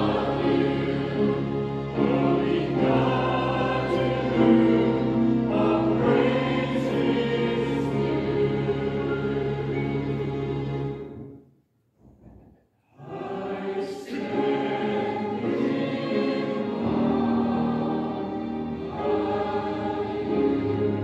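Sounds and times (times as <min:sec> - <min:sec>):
choir singing with accompaniment: 0:00.0 - 0:11.3, 0:13.0 - 0:21.0.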